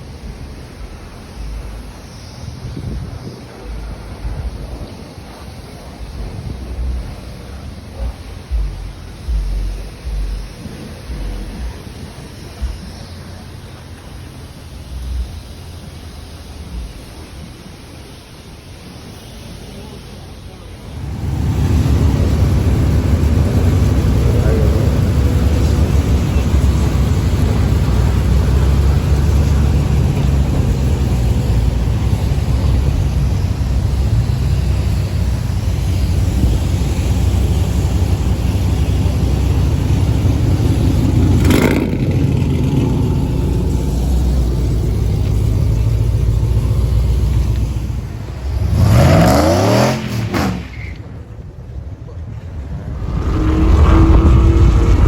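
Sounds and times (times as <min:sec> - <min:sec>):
truck engine running: 0:00.0 - 0:50.1, 0:51.0 - 0:55.0
road noise: 0:00.0 - 0:55.0.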